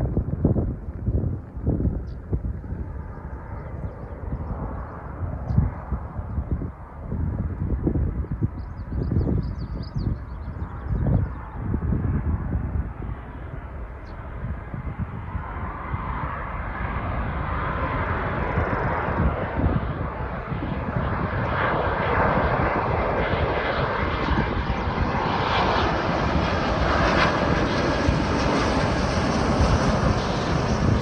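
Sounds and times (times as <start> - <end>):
jet airliner approaching: 0.0 - 31.0.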